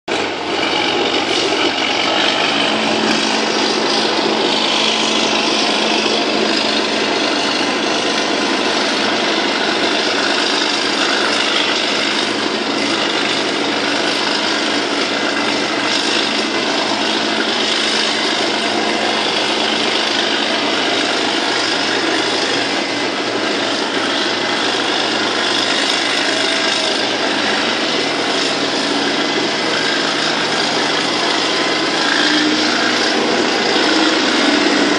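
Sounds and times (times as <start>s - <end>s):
running machinery din: 0.1s - 34.9s.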